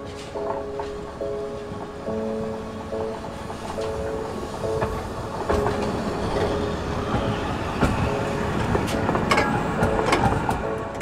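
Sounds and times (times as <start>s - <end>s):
tram rumble: 0.0s - 11.0s
tram wheels clacking over rails: 0.0s - 11.0s.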